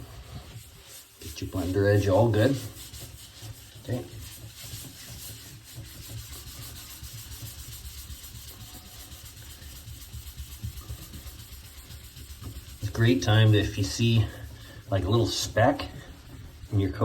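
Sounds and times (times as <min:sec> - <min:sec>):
compound scrubbing on fiberglass: 0:00.0 - 0:17.0.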